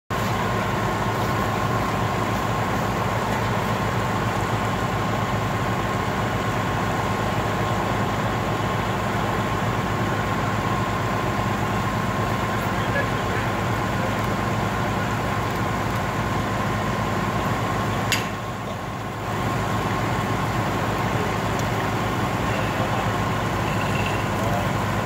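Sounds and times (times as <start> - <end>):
constant whine: 0.1 - 25.0
diesel engines running: 0.1 - 25.0.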